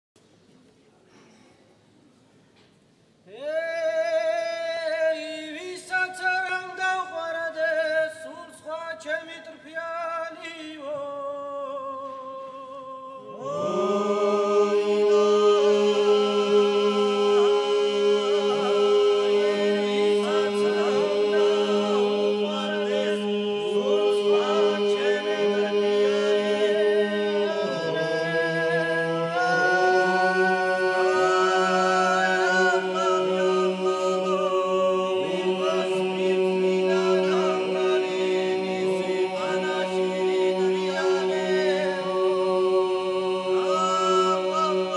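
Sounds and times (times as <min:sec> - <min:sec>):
male choir singing a cappella: 0:03.3 - 0:44.9.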